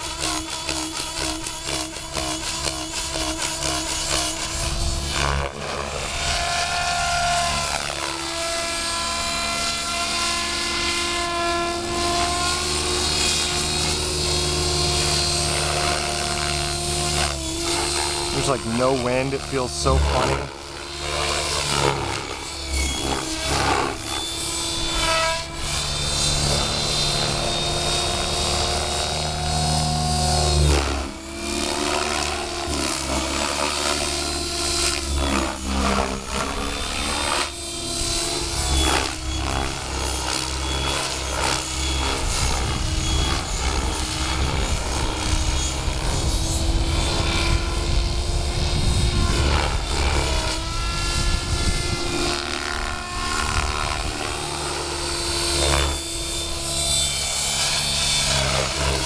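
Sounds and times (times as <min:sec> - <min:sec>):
helicopter rotor buzz: 0:00.0 - 0:59.0
rc helicopter motor whine: 0:00.0 - 0:59.0.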